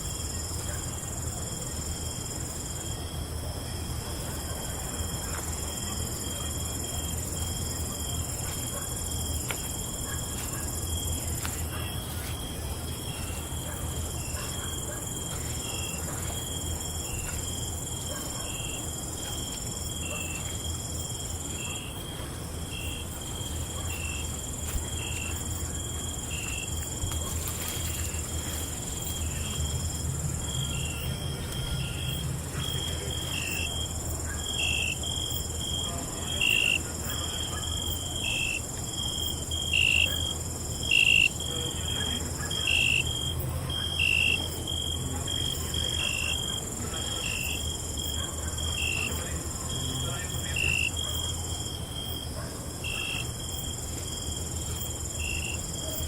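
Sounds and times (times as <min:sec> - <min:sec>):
crickets trilling: 0:00.0 - 0:56.0
insect chirping: 0:04.6 - 0:56.0.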